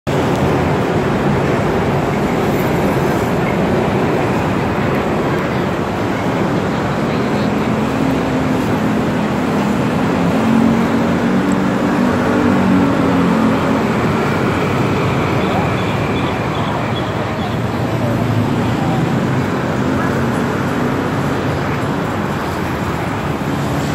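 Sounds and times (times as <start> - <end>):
street traffic noise: 0.0 - 23.9.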